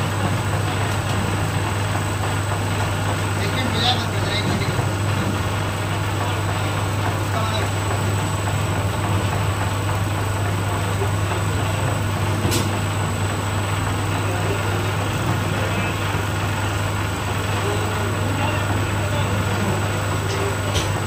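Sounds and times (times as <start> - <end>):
printing machine humming: 0.0 - 21.0.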